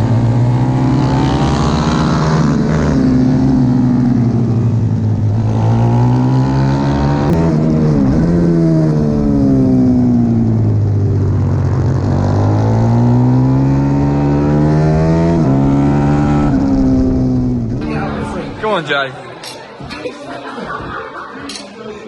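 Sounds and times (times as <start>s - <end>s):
motorbike engine accelerating: 0.0s - 18.7s.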